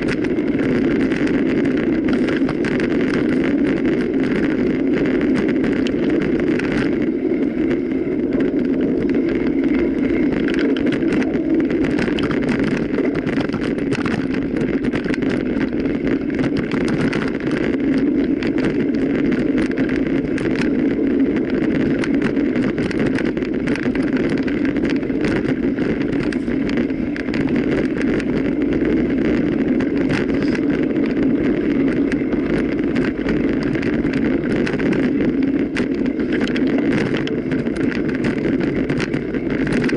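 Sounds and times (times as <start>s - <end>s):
bicycle tyres rumbling: 0.0s - 39.9s
bike rattling: 0.0s - 39.9s.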